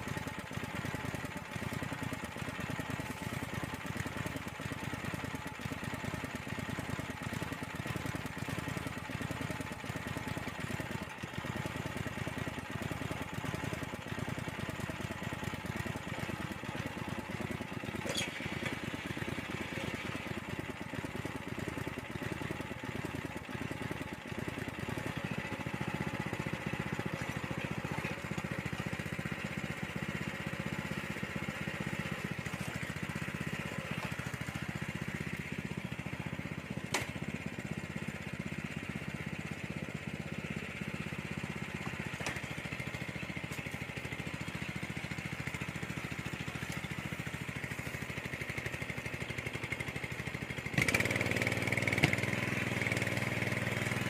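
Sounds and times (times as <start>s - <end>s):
soil tiller engine running: 0.0s - 54.0s.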